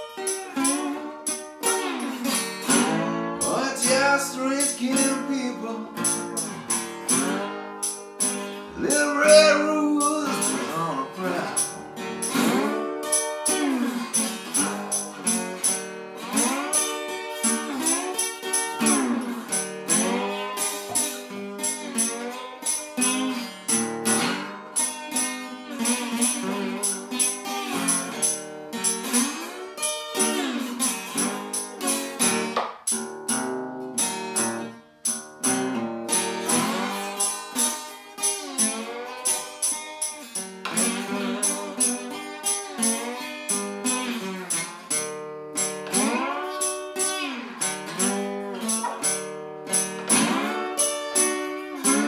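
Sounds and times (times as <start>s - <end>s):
acoustic guitar slow blues: 0.0s - 52.0s
tambourine: 0.0s - 52.0s.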